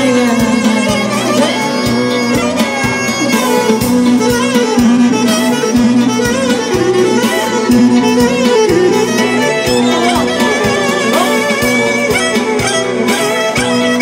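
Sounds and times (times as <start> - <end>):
band playing dance beat: 0.0 - 14.0
clarinet melody: 0.0 - 14.0.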